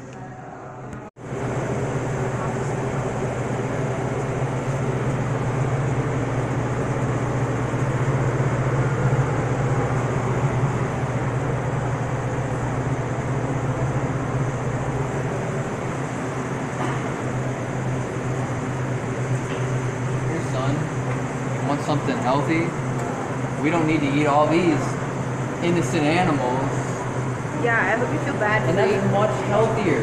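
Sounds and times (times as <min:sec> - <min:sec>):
refrigerator hum and whir: 0:00.0 - 0:30.0.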